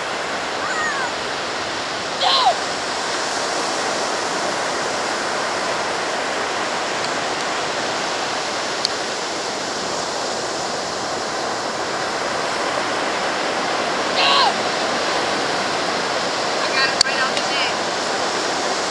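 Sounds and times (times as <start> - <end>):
ocean surf breaking: 0.0 - 18.9.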